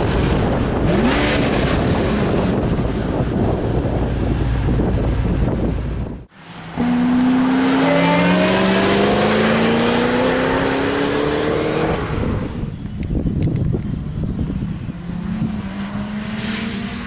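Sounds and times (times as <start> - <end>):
car engine rumbling and accelerating: 0.0 - 17.0.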